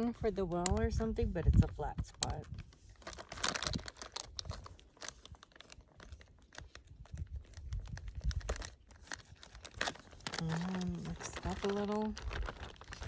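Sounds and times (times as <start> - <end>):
plastic packet crinkling: 0.0 - 13.0.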